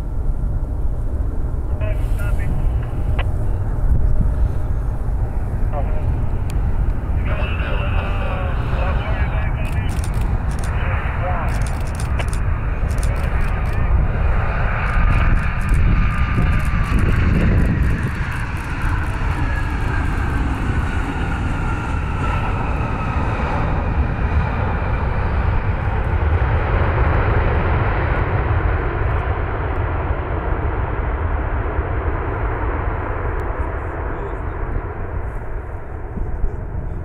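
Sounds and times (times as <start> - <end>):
jet engine roar: 0.0 - 37.0
jet engine whine: 0.0 - 37.0.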